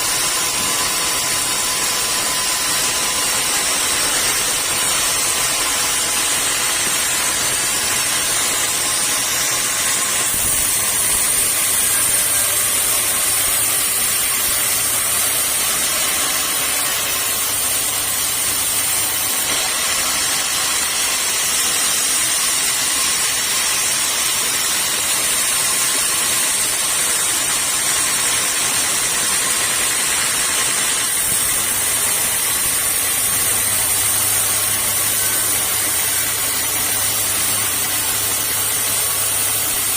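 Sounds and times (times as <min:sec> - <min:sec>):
saw cutting timber: 0:00.0 - 0:39.9.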